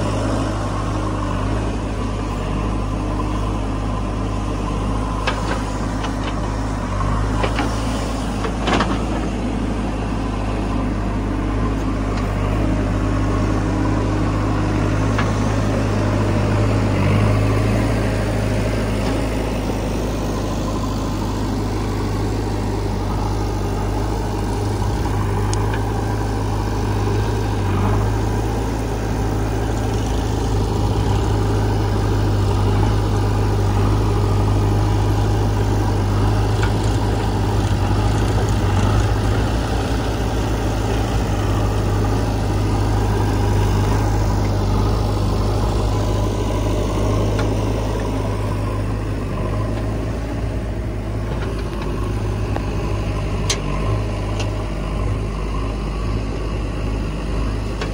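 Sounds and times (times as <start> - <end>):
diesel engines humming: 0.0 - 57.9.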